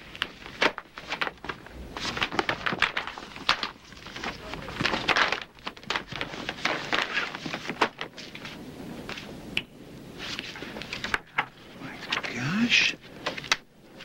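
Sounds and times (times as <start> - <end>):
paper envelope rustling and crinkling: 0.0 - 9.3, 10.2 - 14.0.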